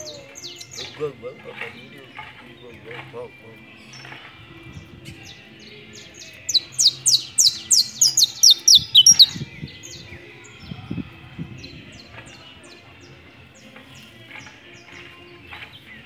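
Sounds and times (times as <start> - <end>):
finch singing: 0.0 - 16.0.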